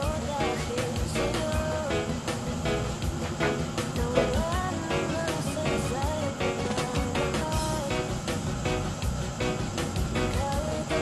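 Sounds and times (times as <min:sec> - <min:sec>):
guitar song with steady beat: 0:00.0 - 0:11.0.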